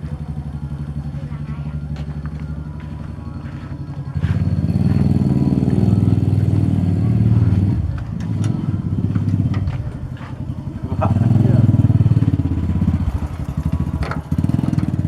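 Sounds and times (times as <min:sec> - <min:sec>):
diesel generator running: 0:00.0 - 0:15.0.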